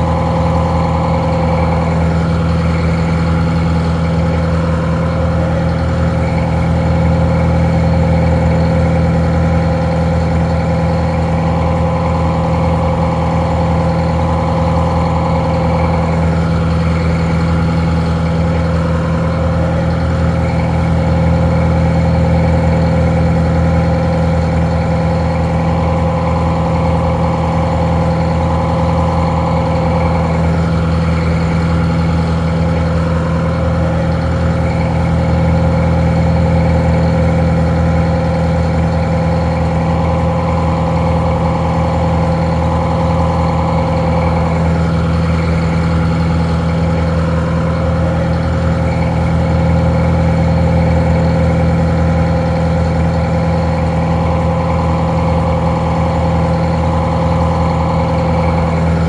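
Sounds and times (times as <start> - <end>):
muffled diesel engine idling: 0.0 - 59.0.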